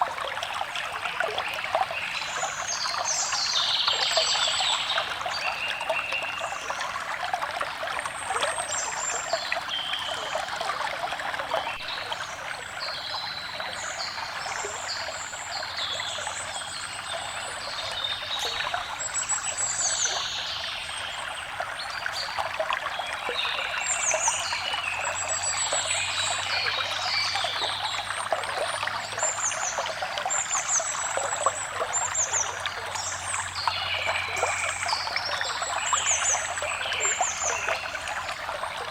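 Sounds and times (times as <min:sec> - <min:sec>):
stream trickling and splashing: 0:00.0 - 0:38.9
forest birds singing: 0:01.0 - 0:06.9, 0:11.6 - 0:38.7.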